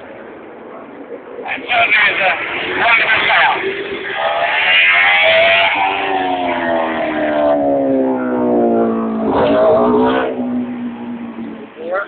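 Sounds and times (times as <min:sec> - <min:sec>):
racing motorcycle engine: 0:01.5 - 0:12.0.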